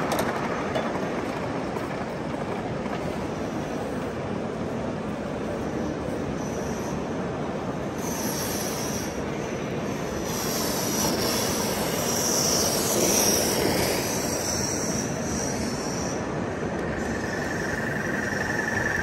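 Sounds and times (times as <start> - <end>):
model steam locomotive passing: 0.0 - 19.0.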